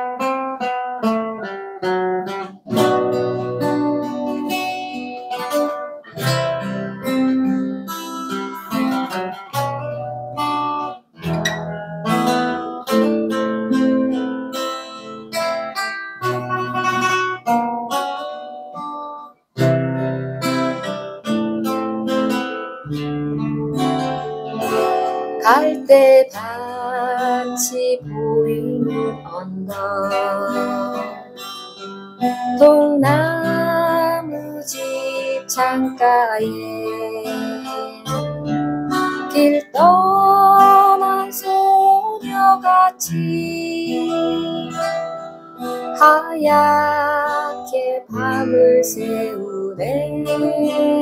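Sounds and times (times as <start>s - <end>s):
acoustic guitar melody: 0.0s - 51.0s.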